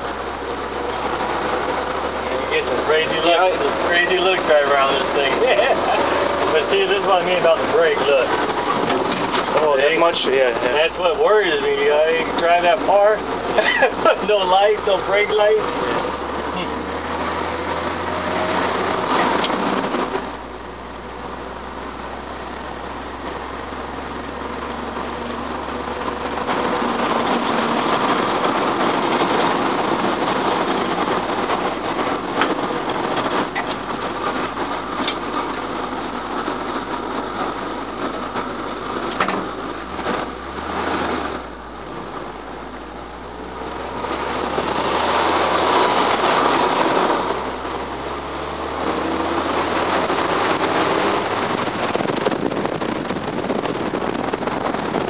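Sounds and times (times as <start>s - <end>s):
pickup engine and road noise: 0.0s - 55.0s.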